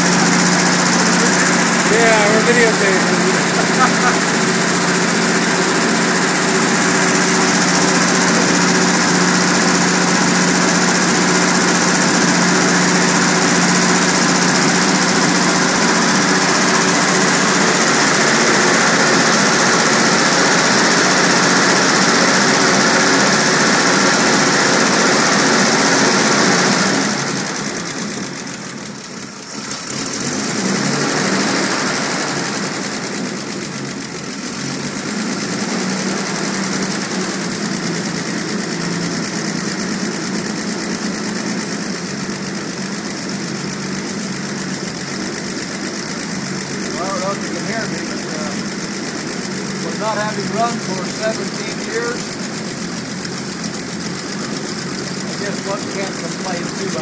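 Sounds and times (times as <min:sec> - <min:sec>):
car engine running steadily: 0:00.0 - 0:57.0.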